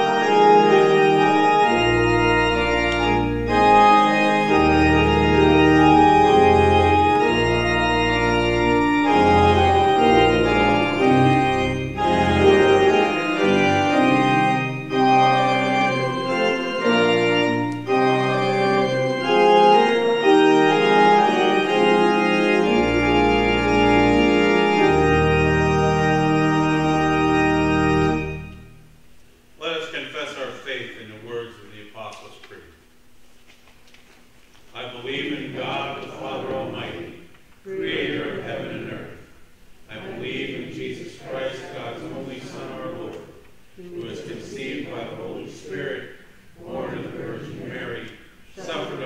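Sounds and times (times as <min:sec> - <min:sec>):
deep organ bass notes: 0:00.0 - 0:31.6, 0:34.8 - 0:43.4, 0:44.0 - 0:49.0
church organ chords: 0:00.0 - 0:32.0, 0:34.8 - 0:49.0.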